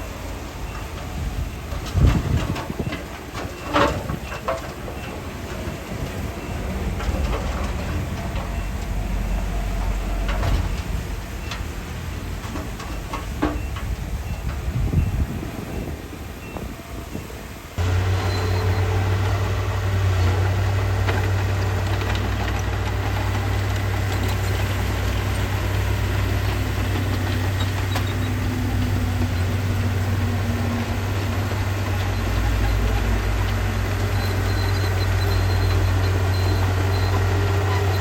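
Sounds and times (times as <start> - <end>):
deeper rumble: 0.0 - 17.2, 17.8 - 38.0
diesel engine running: 0.0 - 38.0.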